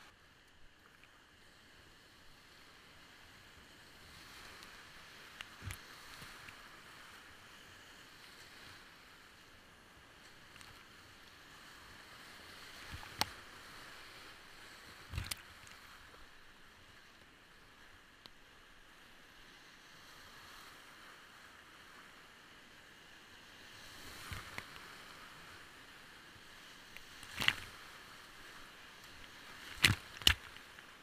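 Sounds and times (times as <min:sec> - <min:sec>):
waves splashing over kayak: 0:02.2 - 0:17.9, 0:18.6 - 0:31.0.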